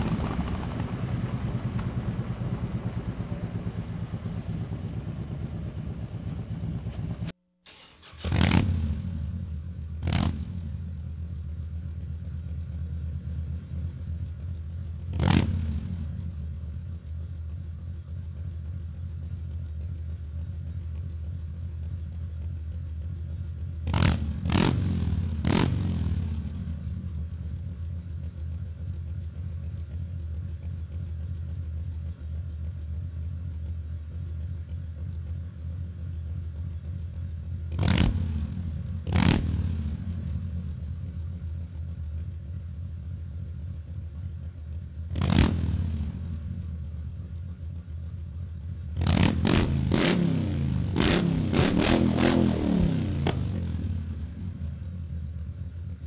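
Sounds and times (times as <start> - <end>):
motorcycle engine idling: 0.0 - 7.4, 8.2 - 56.0
motorcycle engine revving: 0.0 - 17.4, 23.0 - 30.9, 34.2 - 56.0.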